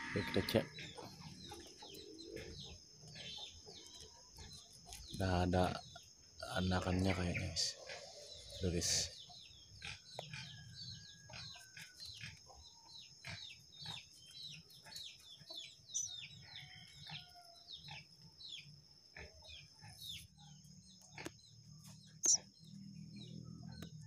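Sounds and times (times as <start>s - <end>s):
nestling birds cheeping: 0.0s - 24.0s.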